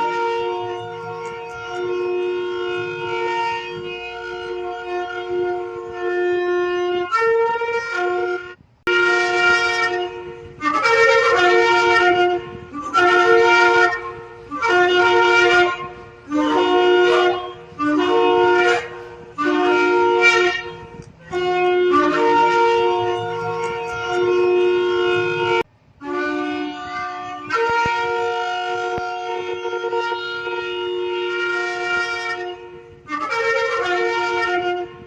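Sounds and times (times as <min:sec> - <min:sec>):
ram's horn blasts: 0:00.0 - 0:35.0.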